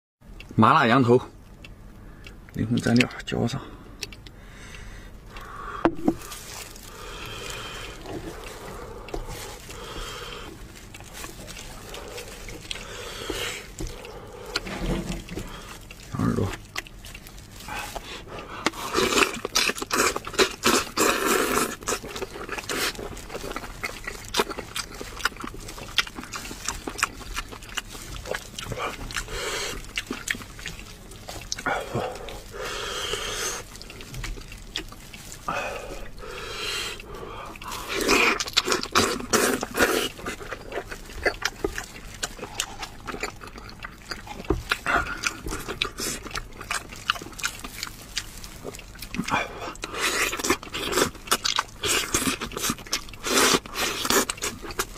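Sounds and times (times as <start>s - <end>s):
wet chewing and slurping: 4.0s - 54.9s.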